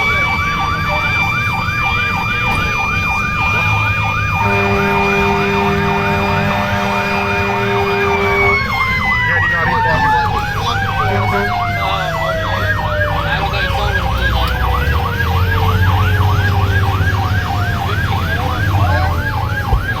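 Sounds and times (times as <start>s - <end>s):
siren tone sliding down: 0.0s - 6.9s, 7.8s - 20.0s
fire engine siren yelping: 0.0s - 20.0s
truck engine rumble: 0.0s - 20.0s.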